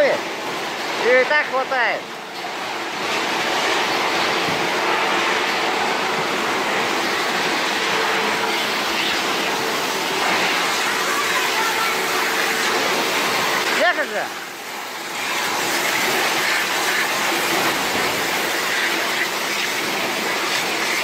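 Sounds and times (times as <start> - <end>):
conveyor machinery hum: 0.0 - 21.0.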